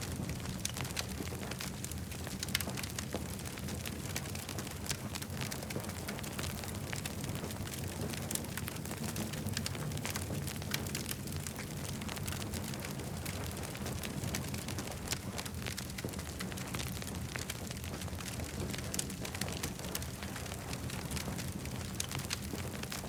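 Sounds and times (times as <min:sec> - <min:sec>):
campfire crackling and popping: 0:00.0 - 0:23.0
low rumble of flames: 0:00.0 - 0:23.0.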